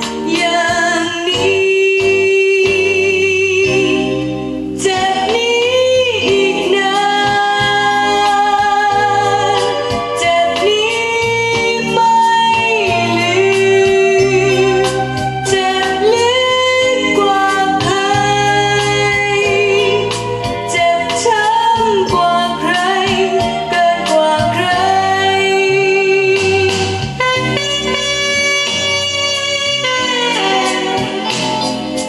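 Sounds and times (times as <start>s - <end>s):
song with singing over bass: 0.0s - 32.0s.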